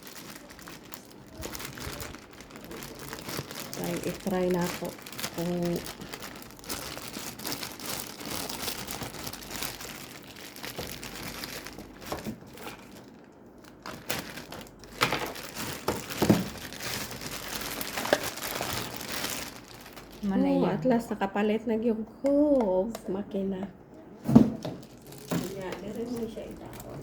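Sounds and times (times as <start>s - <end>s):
packaging crinkling and rustling: 0.0s - 20.5s, 24.3s - 27.0s.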